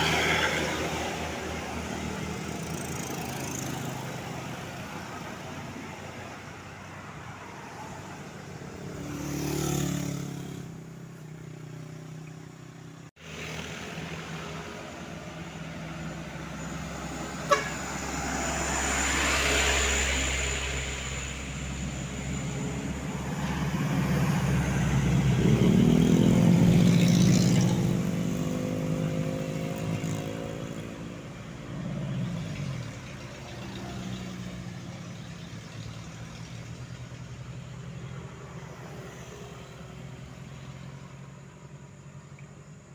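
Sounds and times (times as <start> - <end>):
traffic engine hum: 0.0 - 42.9
vehicles driving past: 0.0 - 42.9.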